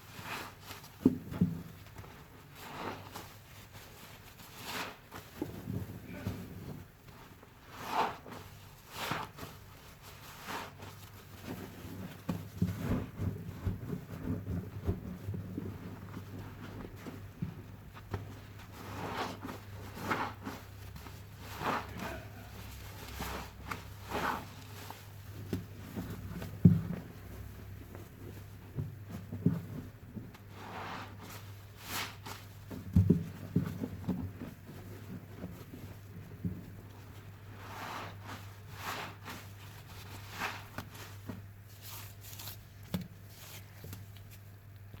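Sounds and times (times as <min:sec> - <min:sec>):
sponge squelching: 0:00.1 - 0:44.6
steady low hum: 0:01.8 - 0:45.0.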